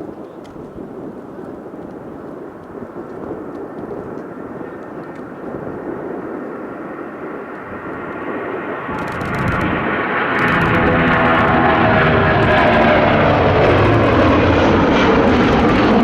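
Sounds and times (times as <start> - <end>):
jet engine whine: 0.0 - 16.0
jet engines roaring: 0.0 - 16.0.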